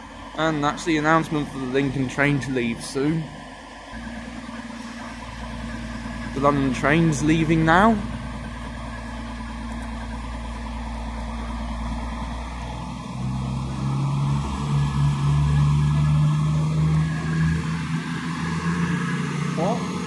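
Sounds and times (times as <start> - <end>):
diesel train engines humming: 0.0 - 20.0.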